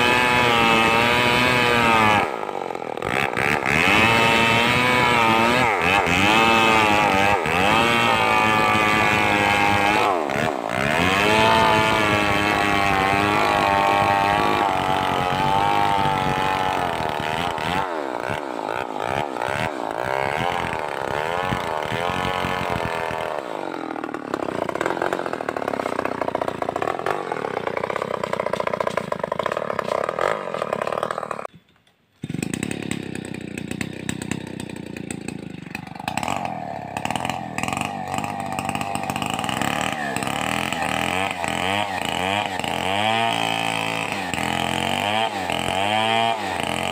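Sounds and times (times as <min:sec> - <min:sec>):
chainsaw revving while cutting wood: 0:00.0 - 0:31.5, 0:32.2 - 0:46.9.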